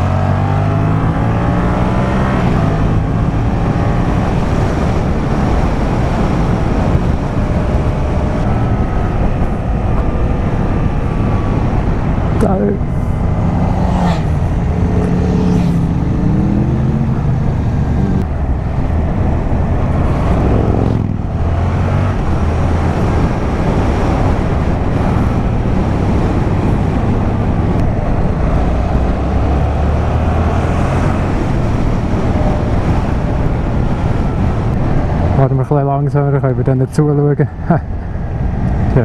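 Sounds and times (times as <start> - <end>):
wind noise: 0.0 - 39.0.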